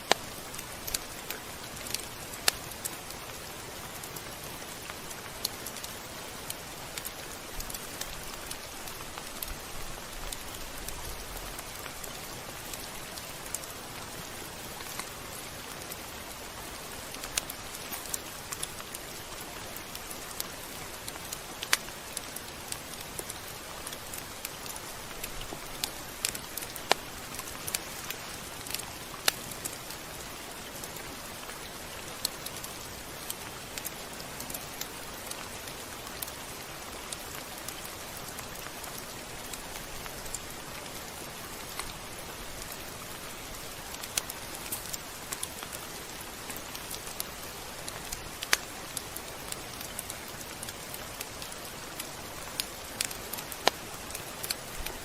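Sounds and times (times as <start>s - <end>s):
rain hiss: 0.0s - 55.0s
sharp drip ticks: 0.0s - 55.0s.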